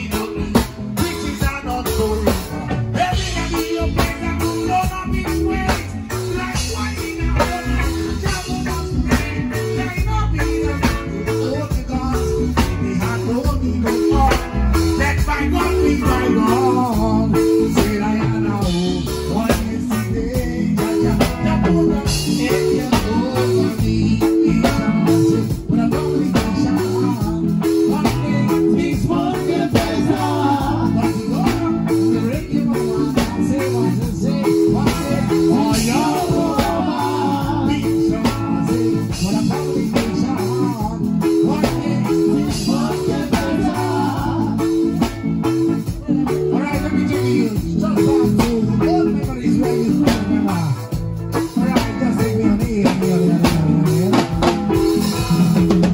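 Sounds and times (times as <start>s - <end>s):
guitar: 0.0s - 55.9s
live reggae band playing: 0.0s - 55.9s.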